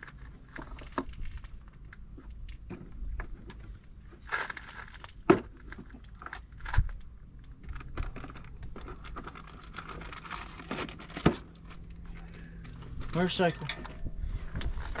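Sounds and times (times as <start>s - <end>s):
crinkling and rustling handling noise: 0.0s - 15.0s.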